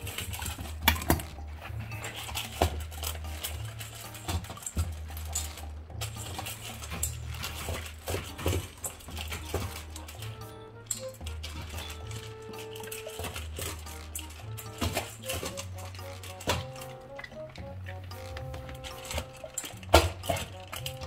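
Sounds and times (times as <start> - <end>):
background music: 0.0 - 21.0
dogs crunching kibble: 0.0 - 21.0
metal bowls rattling: 0.0 - 21.0.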